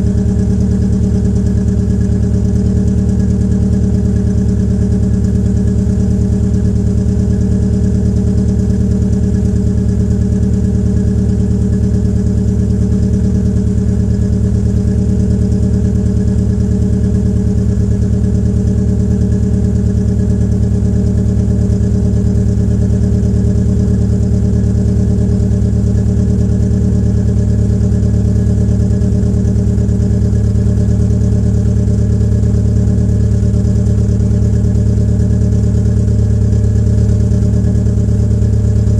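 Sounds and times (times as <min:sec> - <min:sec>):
car engine idling roughly: 0:00.0 - 0:38.9.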